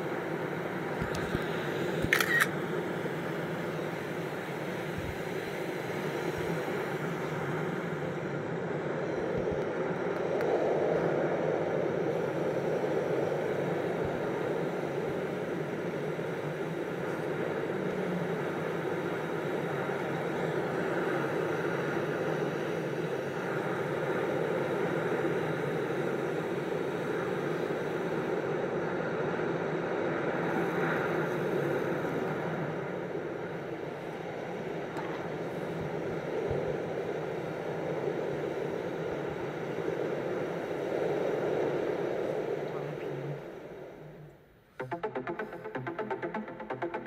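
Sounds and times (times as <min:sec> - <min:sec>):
steady rumbling noise: 0:00.0 - 0:28.2, 0:30.4 - 0:47.0.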